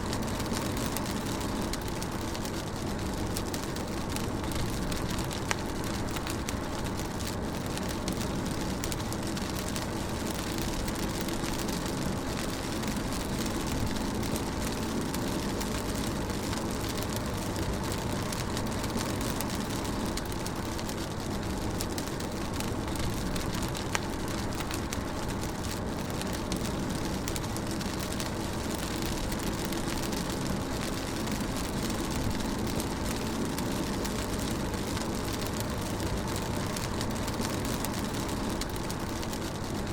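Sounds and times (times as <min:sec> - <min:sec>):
rain hiss: 0:00.0 - 0:39.9
raindrops tapping: 0:00.0 - 0:39.9.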